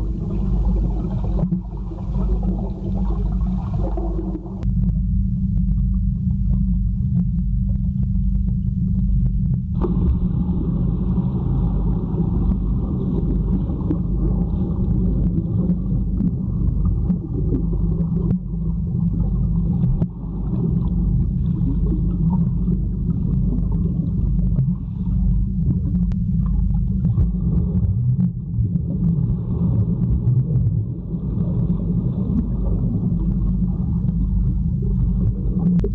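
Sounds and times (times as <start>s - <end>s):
muffled underwater rumble: 0.0s - 35.9s.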